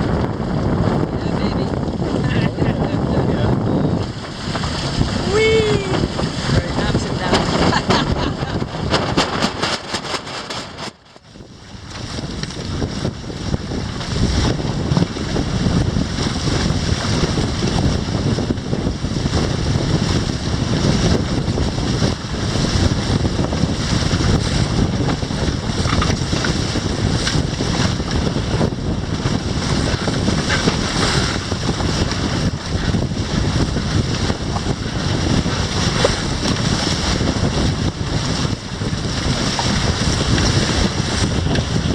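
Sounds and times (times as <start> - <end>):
water rushing along hulls: 0.0 - 41.9
wind buffeting microphone: 0.0 - 41.9.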